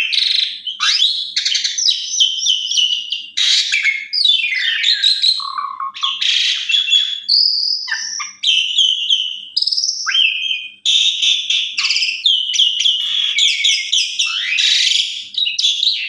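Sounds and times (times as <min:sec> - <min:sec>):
starling singing: 0:00.0 - 0:16.0.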